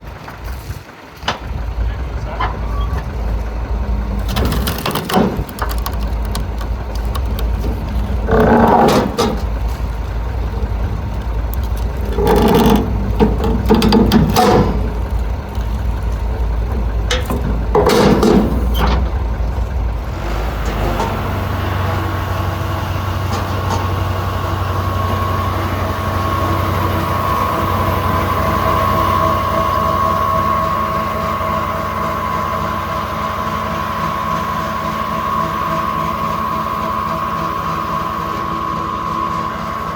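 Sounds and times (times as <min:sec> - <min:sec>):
sawmill machinery drone: 0:00.2 - 0:39.9.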